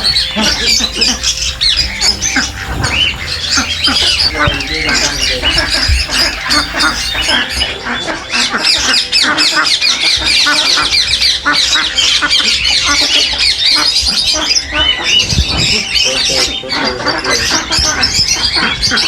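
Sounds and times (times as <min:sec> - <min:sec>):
caged birds chirping and squawking: 0:00.0 - 0:19.0.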